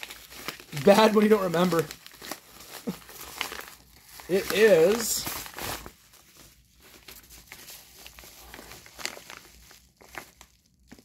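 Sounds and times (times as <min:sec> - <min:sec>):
paper mailer rustling and crinkling: 0:00.0 - 0:11.0.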